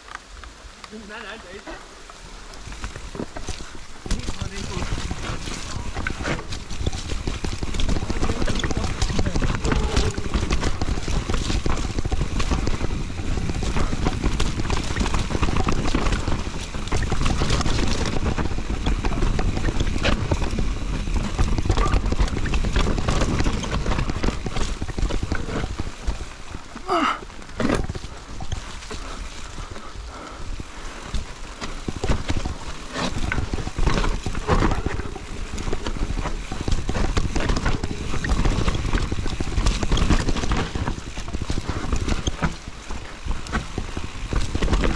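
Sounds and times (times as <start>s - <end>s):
bike tyres rumbling over ground: 0.0s - 44.9s.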